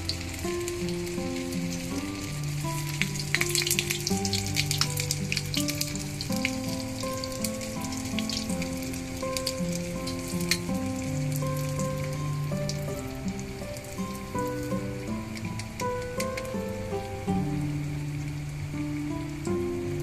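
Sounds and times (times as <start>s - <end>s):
background music: 0.0s - 20.0s
hot oil sizzling and popping: 0.0s - 20.0s.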